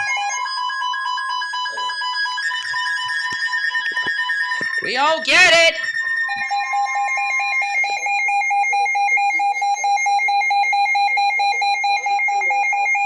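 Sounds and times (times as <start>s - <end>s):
rapidly pulsing alarm tone: 0.0s - 13.0s
steady alarm tone: 0.0s - 13.0s
two-pitch warble alarm: 0.0s - 13.0s.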